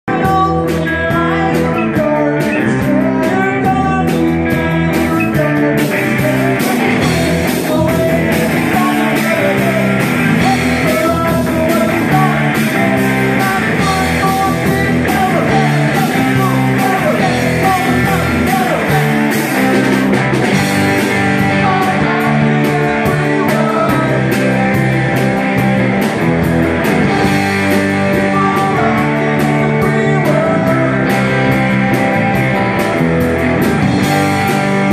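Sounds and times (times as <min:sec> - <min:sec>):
person singing: 0:00.0 - 0:25.8, 0:26.8 - 0:33.2
electric guitars: 0:00.0 - 0:34.9
drum kit beat: 0:00.1 - 0:34.9.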